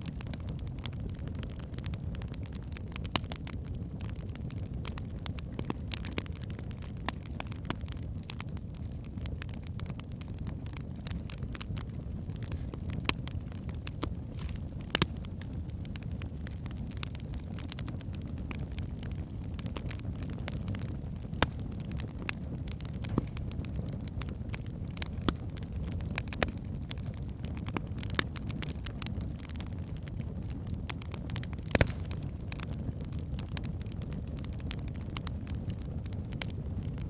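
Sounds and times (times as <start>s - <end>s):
logs crackling and popping: 0.0s - 37.0s
low rumble of flames: 0.0s - 37.0s.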